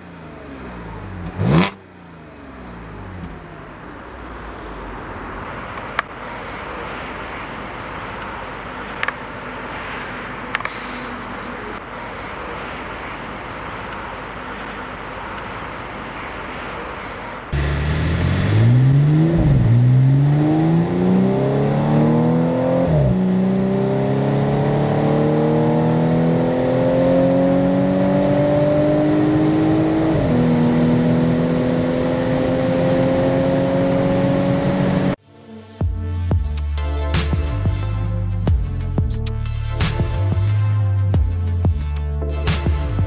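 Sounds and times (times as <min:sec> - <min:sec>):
car engine accelerating: 0:00.0 - 0:35.2.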